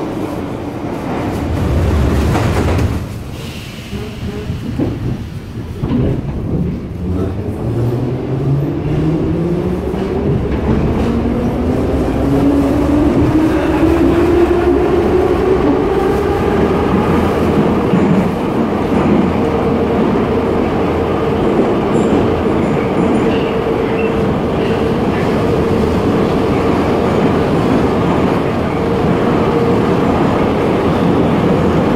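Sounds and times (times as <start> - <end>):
wheels rumbling on rails: 0.0 - 31.9.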